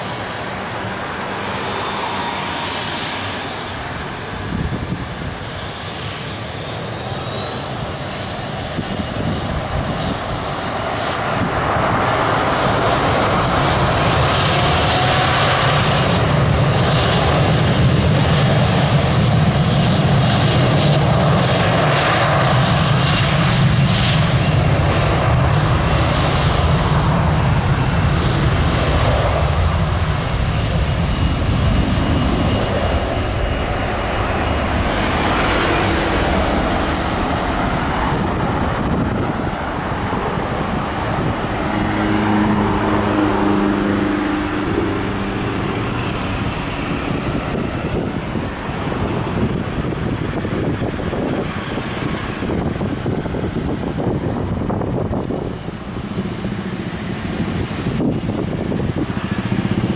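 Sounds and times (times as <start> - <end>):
jet engines roaring at takeoff: 0.0 - 59.9.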